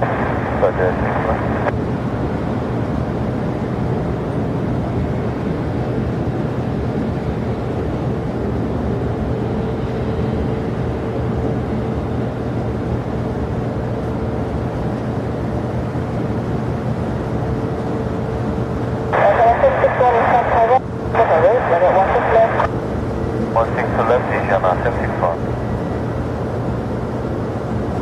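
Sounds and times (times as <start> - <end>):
faint steady whine: 0.0 - 1.8, 4.6 - 28.0
jet engines rumbling: 0.0 - 28.0.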